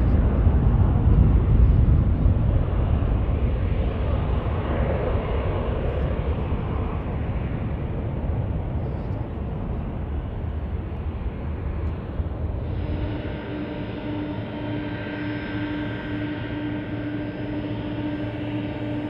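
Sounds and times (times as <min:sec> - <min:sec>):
jet engines taking off: 0:00.0 - 0:19.0.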